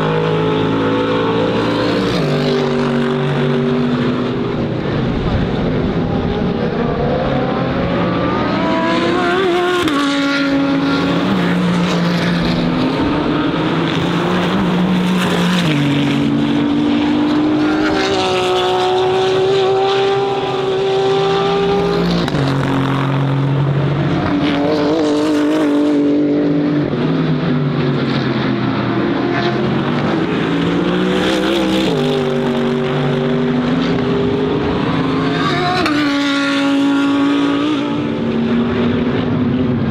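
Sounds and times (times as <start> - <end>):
cars passing close by: 0.0 - 39.9
race car engines accelerating: 0.0 - 39.9.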